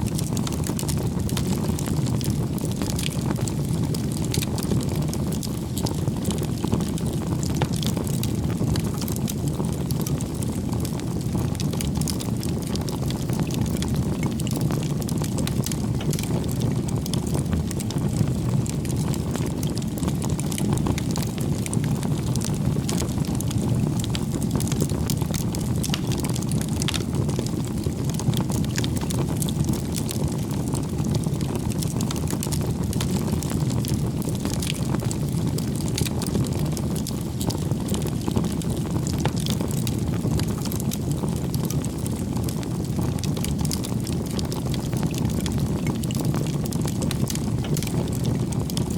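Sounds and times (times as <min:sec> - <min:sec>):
campfire flame rushing: 0:00.0 - 0:48.9
fire crackling and popping: 0:00.0 - 0:48.9.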